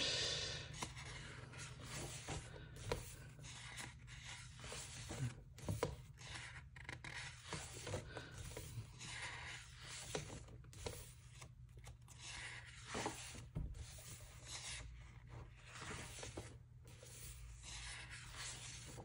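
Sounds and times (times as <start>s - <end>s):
book pages turning: 0.6s - 19.0s
soft paper swishes: 0.6s - 19.0s.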